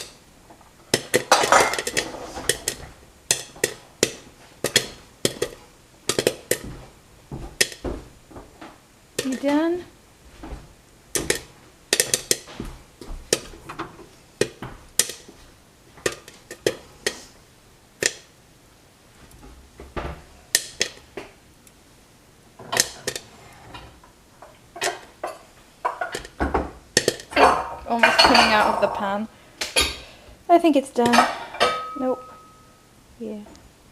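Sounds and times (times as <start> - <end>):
popcorn popping in a pan: 0.0 - 9.9, 11.1 - 18.4, 19.3 - 21.8, 22.5 - 23.3, 24.0 - 30.0, 30.8 - 32.8.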